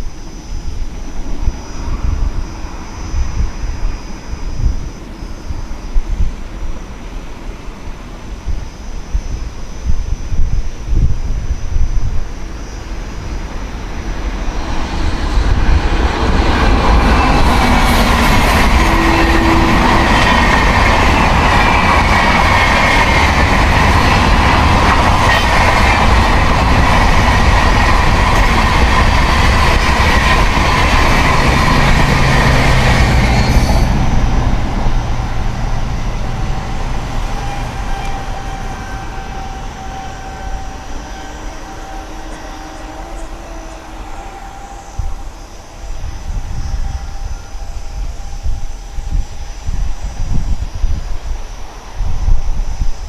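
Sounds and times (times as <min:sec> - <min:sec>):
train passing at speed: 0:00.0 - 0:53.0.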